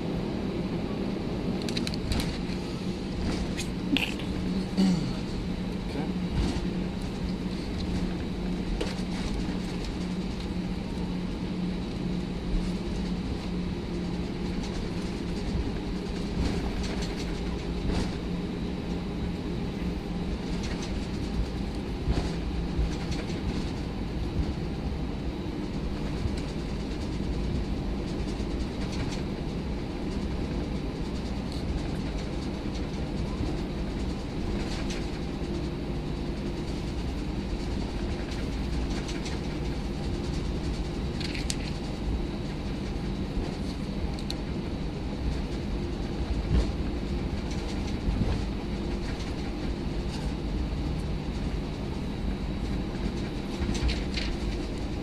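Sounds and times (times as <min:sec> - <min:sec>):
aircraft engine hum: 0:00.0 - 0:55.0
rumbling rush of cabin noise: 0:00.0 - 0:55.0.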